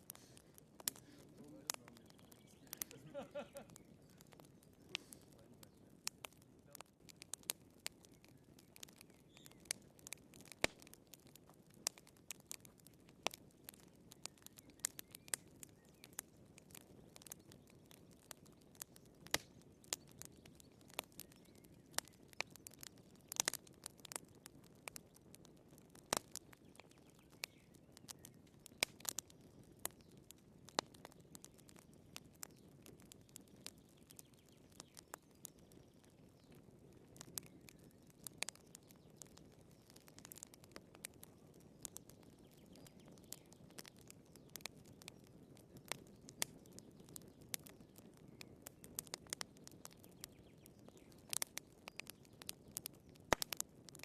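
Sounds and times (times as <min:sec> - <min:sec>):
firewood crackling in a fireplace: 0:00.0 - 0:54.0.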